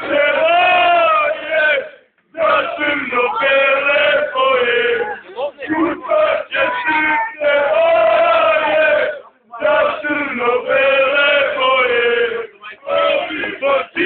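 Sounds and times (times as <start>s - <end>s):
crowd of men chanting: 0.0s - 14.0s.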